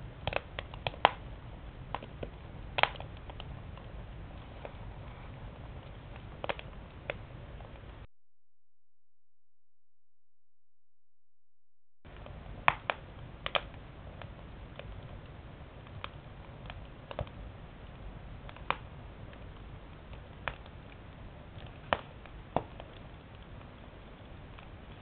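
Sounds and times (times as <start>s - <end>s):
firewood crackling and popping: 0.0s - 8.1s, 12.1s - 25.0s.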